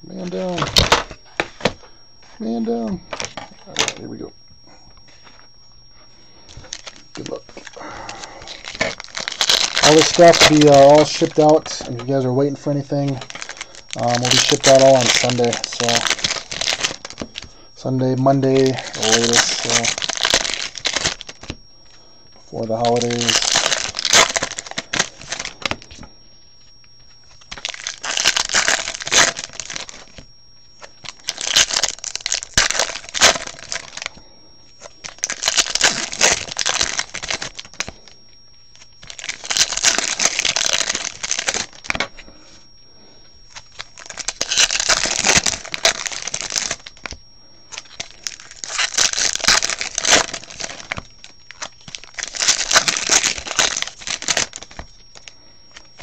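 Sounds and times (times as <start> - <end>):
foil wrappers tearing and crinkling: 0.1 - 1.8, 6.6 - 21.6, 22.5 - 26.0, 27.2 - 34.2, 34.8 - 42.2, 43.5 - 56.0.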